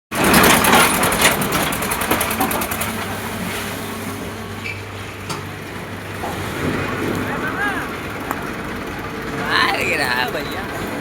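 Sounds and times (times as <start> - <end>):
tractor diesel engine clattering: 0.1 - 11.0.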